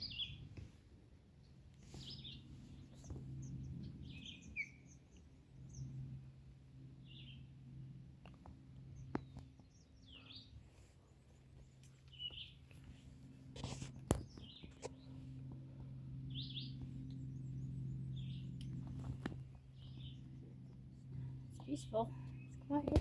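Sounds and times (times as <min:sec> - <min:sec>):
small birds chirping: 0:00.0 - 0:00.4, 0:01.8 - 0:06.0, 0:07.0 - 0:07.5, 0:08.8 - 0:23.0
low steady hum: 0:00.0 - 0:23.0.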